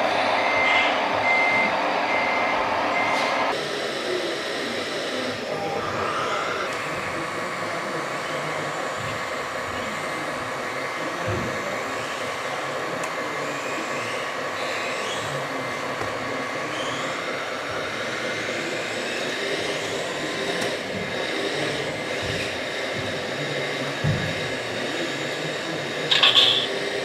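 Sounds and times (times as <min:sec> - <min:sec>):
electric hydraulic pump whirring: 0:00.0 - 0:27.0.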